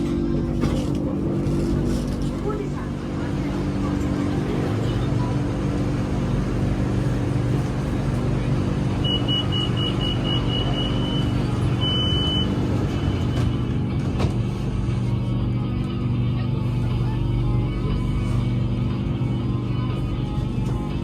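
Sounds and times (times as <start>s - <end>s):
electric train hum and rumble: 0.0s - 21.0s.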